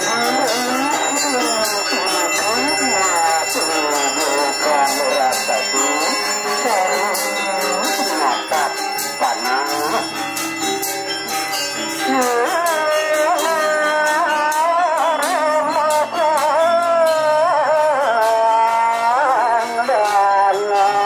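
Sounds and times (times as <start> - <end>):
bell-like ringing tones: 0.0 - 21.0
gamelan music: 0.0 - 21.0.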